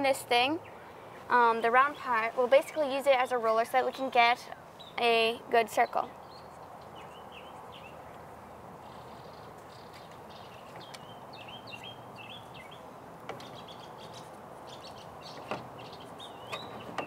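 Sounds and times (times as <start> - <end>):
outdoor background noise: 0.0 - 17.0
birds chirping: 0.1 - 17.0.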